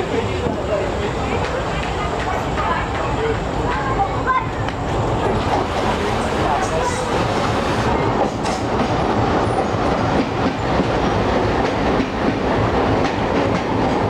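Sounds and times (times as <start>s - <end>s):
train wheels clacking on rails: 0.0s - 14.0s.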